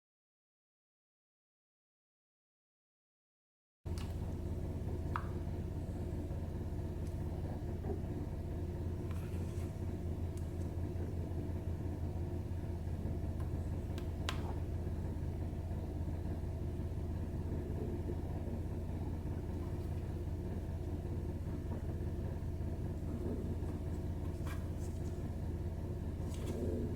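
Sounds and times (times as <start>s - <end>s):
steady low hum: 3.9s - 26.9s.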